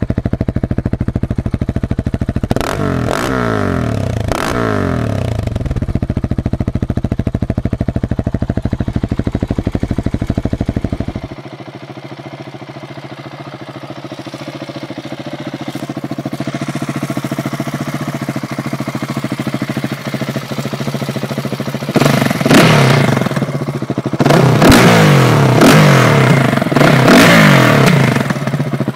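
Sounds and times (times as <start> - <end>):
motorcycle engine idling: 0.0 - 28.9
motorcycle engine revving: 0.0 - 28.9.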